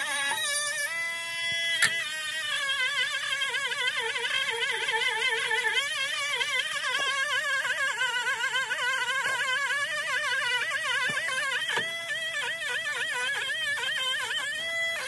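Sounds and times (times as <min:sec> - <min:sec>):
rotary tool whining: 0:00.0 - 0:15.0.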